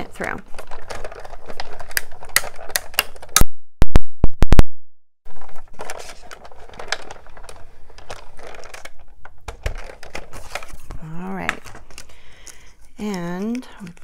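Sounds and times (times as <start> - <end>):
creaking clicks and crackles: 0.1 - 3.4, 5.3 - 14.0.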